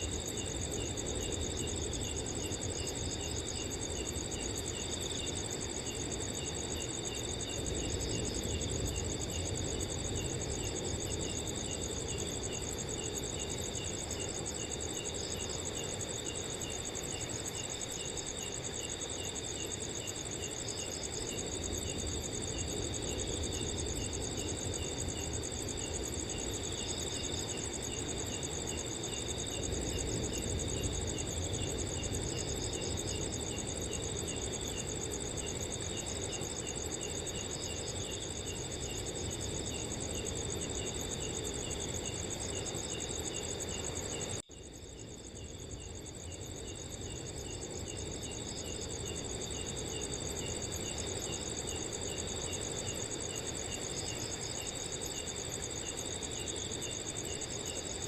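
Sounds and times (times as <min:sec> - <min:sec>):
cricket chirping in pulses: 0:00.0 - 0:58.0
crickets trilling: 0:00.0 - 0:58.0.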